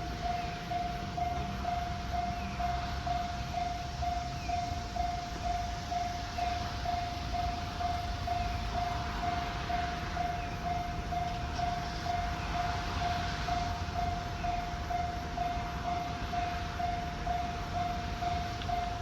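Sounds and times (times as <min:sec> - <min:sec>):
level crossing warning bell: 0:00.0 - 0:19.0
steady rumble and hiss: 0:00.0 - 0:19.0.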